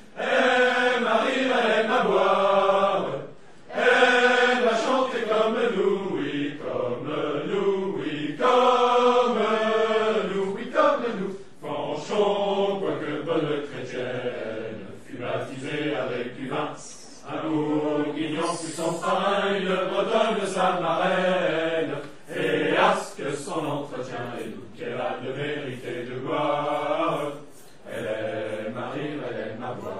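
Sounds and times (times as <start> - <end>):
voices singing chant-like song: 0.0 - 29.9.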